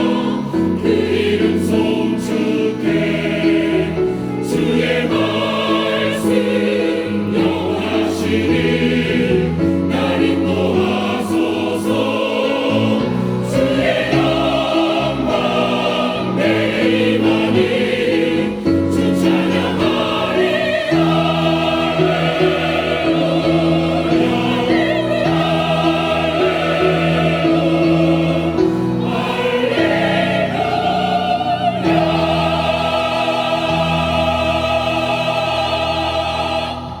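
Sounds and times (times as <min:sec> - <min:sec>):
church choir singing: 0:00.0 - 0:37.0.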